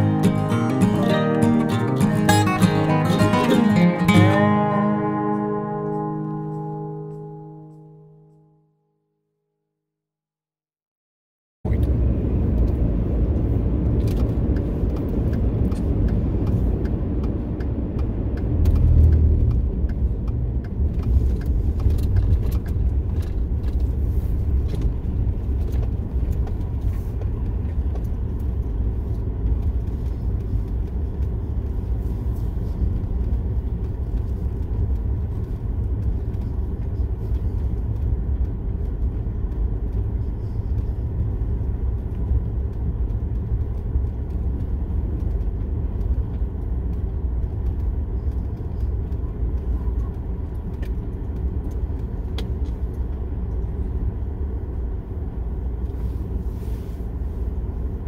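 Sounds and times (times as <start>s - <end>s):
car engine and road rumble: 0.0s - 8.6s, 11.6s - 58.0s.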